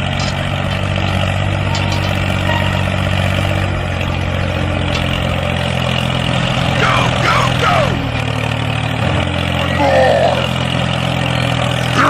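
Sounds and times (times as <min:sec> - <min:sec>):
small tractor idling: 0:00.0 - 0:12.0.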